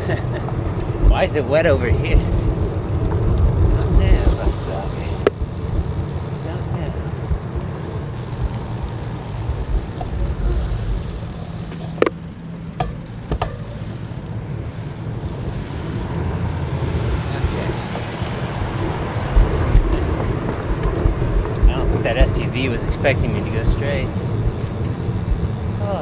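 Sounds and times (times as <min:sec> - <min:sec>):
wind on microphone: 0:00.0 - 0:12.1, 0:13.8 - 0:26.0
bicycle road noise: 0:00.0 - 0:26.0.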